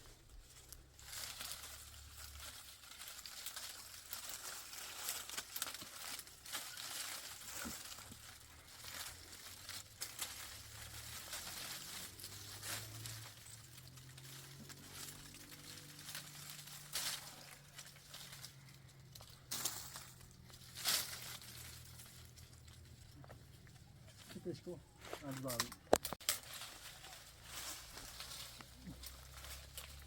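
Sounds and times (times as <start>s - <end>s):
dry brush rustling and crackling: 0.0s - 30.0s.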